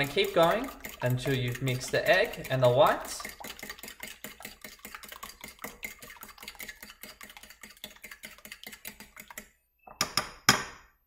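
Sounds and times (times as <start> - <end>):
fork whisking eggs in a bowl: 0.0 - 9.6.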